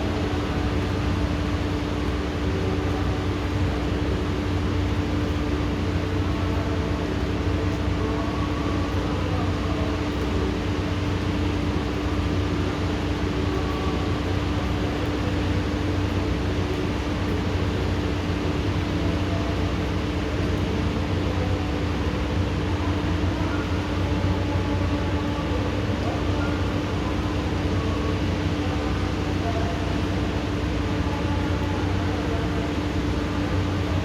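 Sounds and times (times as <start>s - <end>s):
mechanical hum: 0.0s - 34.0s.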